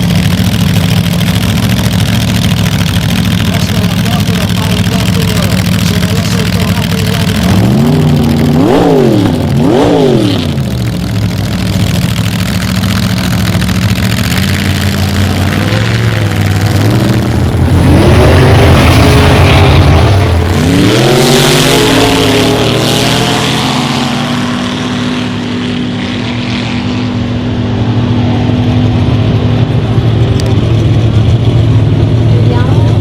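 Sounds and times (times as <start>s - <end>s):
drag racing car engine revving: 0.0s - 33.0s.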